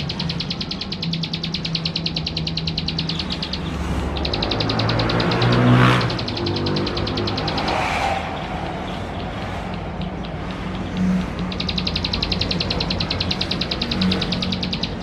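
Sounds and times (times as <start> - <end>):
bird buzzy trill: 0.0 - 15.0.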